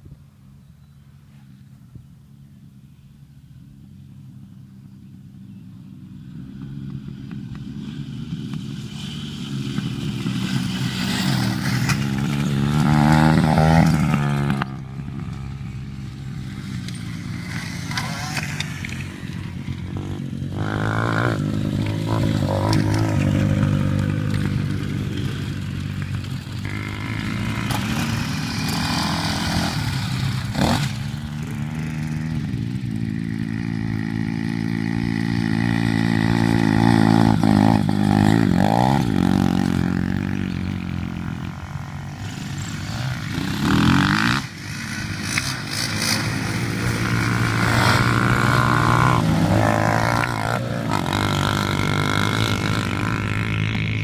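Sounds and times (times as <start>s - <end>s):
motocross bikes revving: 5.9s - 54.0s.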